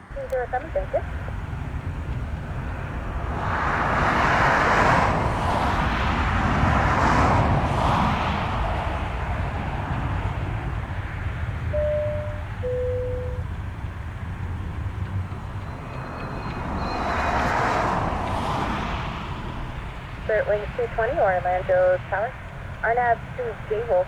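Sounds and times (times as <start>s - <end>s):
passing vehicle rushing: 1.0s - 23.4s.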